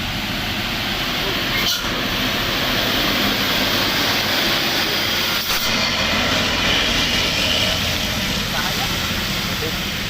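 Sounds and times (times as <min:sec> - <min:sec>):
dump truck engine running: 0:00.0 - 0:10.0.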